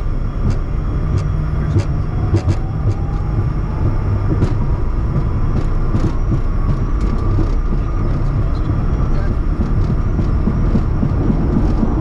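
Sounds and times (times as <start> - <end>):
faint steady whine: 0.0 - 12.0
jet engine rumble: 0.0 - 12.0.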